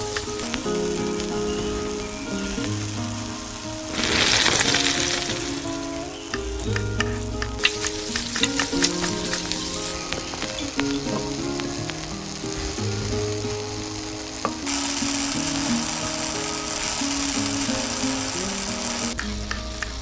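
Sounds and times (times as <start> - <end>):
background music with bass line: 0.0 - 20.0
crackles and clicks: 0.0 - 20.0
sizzling hiss: 0.0 - 20.0.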